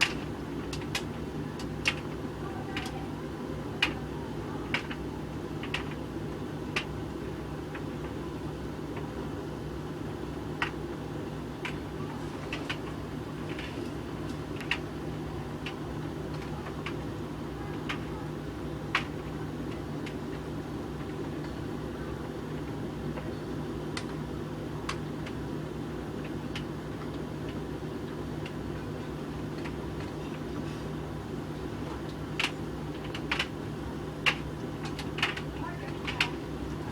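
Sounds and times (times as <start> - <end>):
sharp clicks of tumbling load: 0.0 - 8.2, 10.4 - 21.7, 22.4 - 30.6, 31.3 - 36.9.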